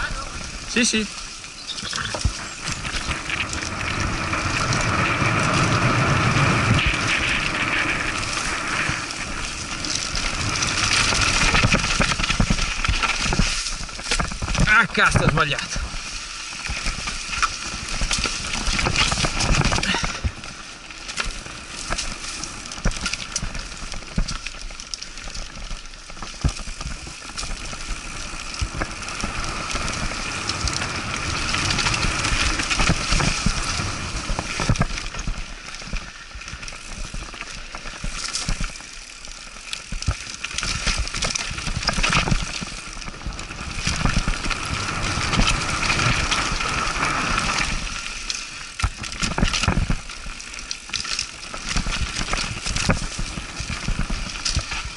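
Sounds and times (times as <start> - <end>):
bike tyres crunching over dirt: 0.0 - 54.9
bike knocking and rattling: 1.6 - 54.9.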